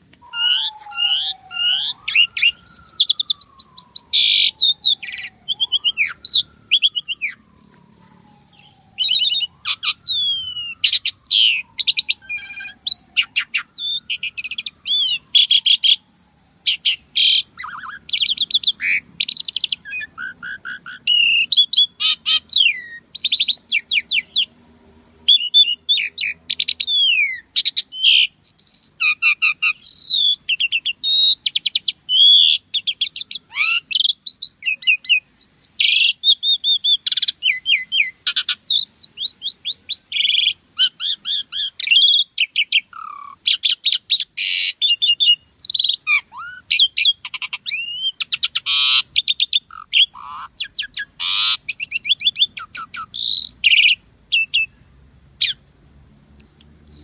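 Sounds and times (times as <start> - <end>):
starling singing whistles and chatter: 0.0 - 54.8, 55.4 - 55.6, 56.4 - 57.0.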